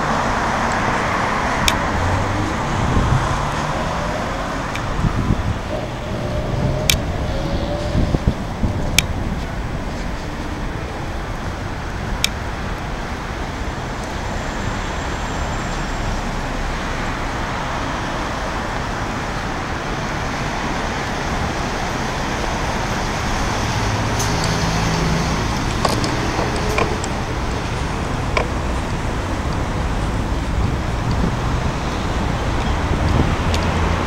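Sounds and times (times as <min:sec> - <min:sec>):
city traffic noise: 0:00.0 - 0:34.0.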